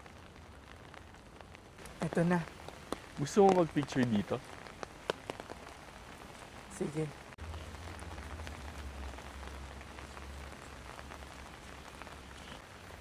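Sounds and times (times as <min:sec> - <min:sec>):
light drizzle patter: 0:00.0 - 0:13.0.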